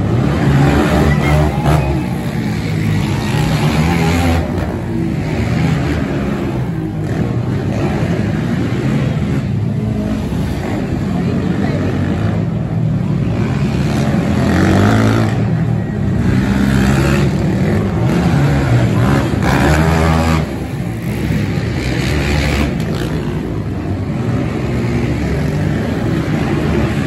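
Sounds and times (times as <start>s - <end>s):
quad engines revving: 0.0s - 27.0s.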